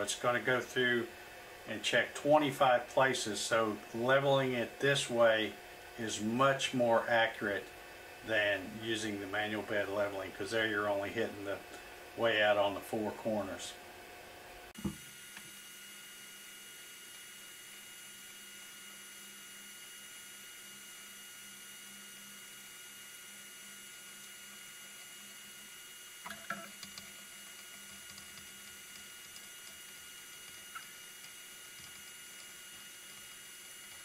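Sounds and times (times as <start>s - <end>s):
printer humming with whining tones: 0.0s - 34.0s.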